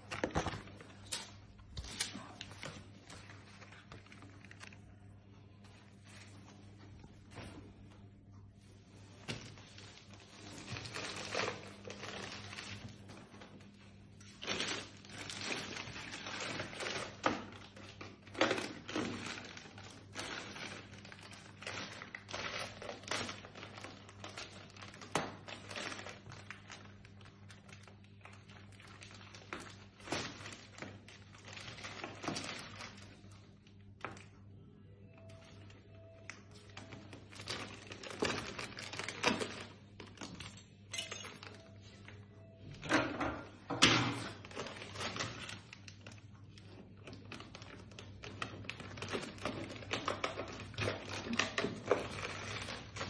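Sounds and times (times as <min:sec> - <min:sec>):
plastic wrap crinkling: 0:00.0 - 0:34.4, 0:35.2 - 0:42.4, 0:43.5 - 0:53.0.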